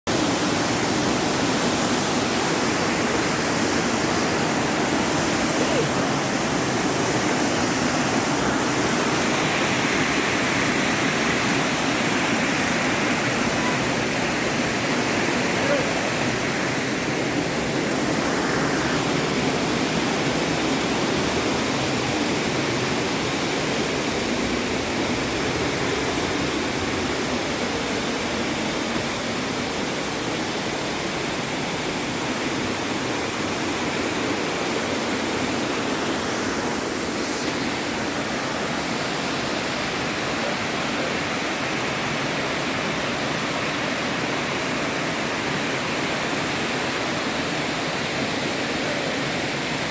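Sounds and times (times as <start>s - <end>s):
rushing falling water: 0.0s - 49.9s.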